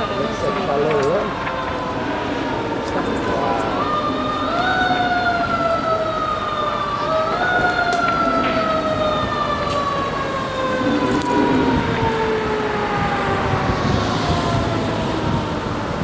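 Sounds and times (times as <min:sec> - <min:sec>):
emergency vehicle siren wailing: 0:00.0 - 0:16.0
traffic rumble: 0:00.0 - 0:16.0.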